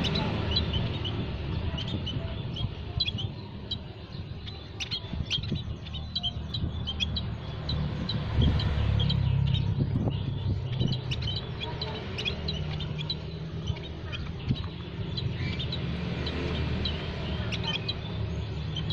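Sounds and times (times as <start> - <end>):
small songbirds chirping: 0.0 - 18.9.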